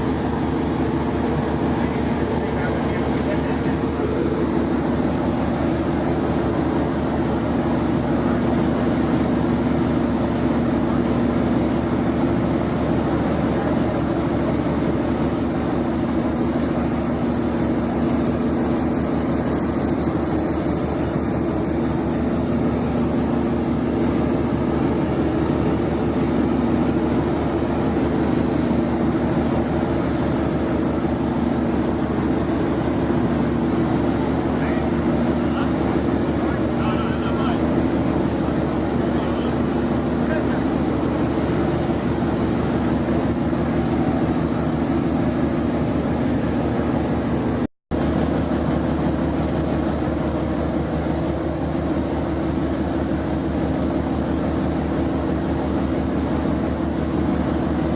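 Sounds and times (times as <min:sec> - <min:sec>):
boat engine droning: 0:00.0 - 0:57.9
broad wash of noise: 0:00.0 - 0:57.9.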